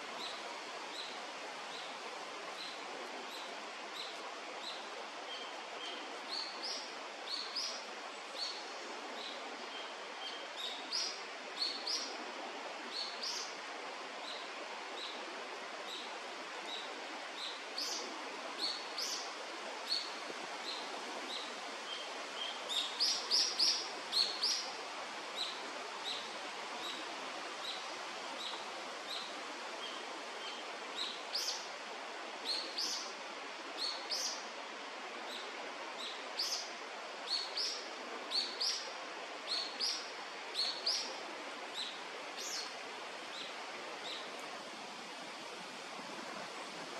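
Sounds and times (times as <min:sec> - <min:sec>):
steady outdoor hiss: 0:00.0 - 0:46.9.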